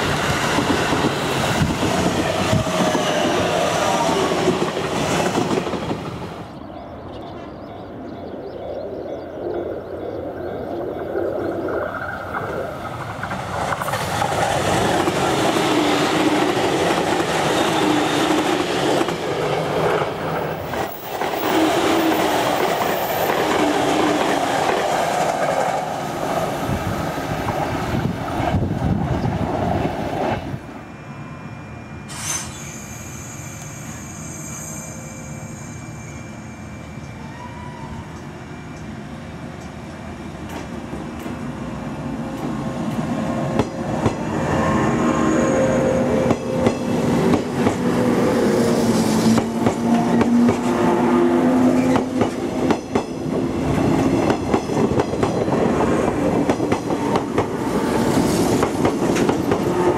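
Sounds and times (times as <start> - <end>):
train wheels rumbling on rail: 0.0 - 7.8, 10.0 - 30.8, 32.1 - 59.9.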